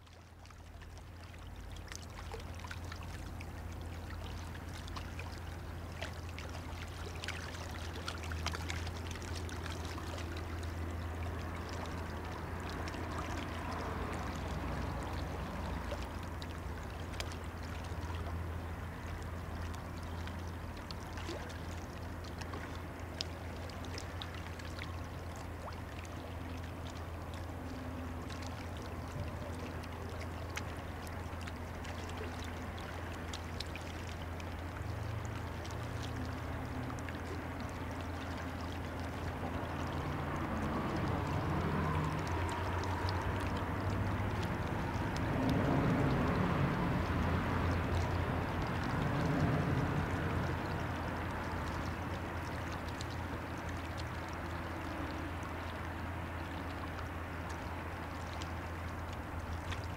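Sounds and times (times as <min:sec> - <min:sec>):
water lapping and splashing: 0:00.0 - 0:59.9.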